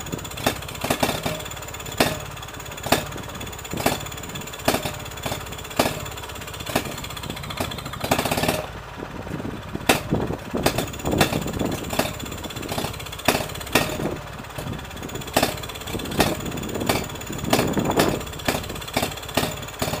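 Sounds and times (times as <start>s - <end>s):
stationary engine chugging: 0.0s - 20.0s
sharp cracks: 0.2s - 8.8s, 9.8s - 20.0s.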